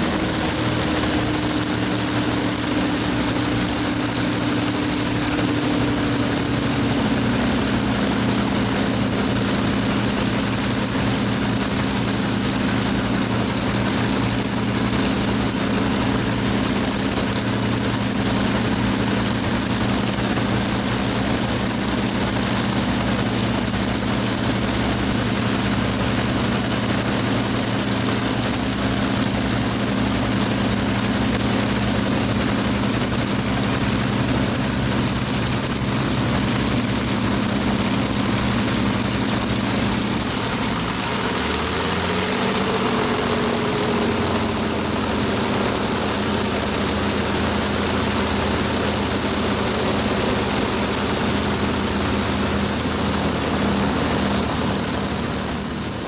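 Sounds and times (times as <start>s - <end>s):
propeller aircraft engine running: 0.0s - 56.0s.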